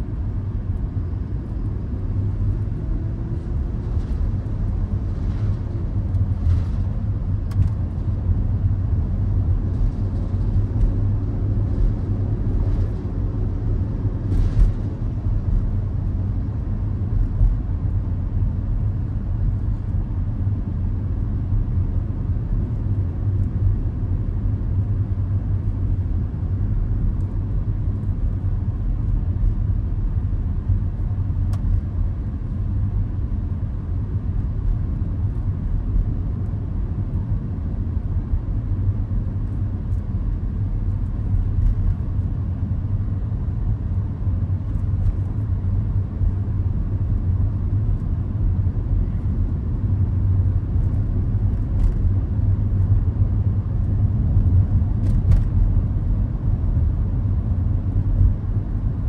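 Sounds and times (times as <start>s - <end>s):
car cabin road and engine rumble: 0.0s - 59.0s.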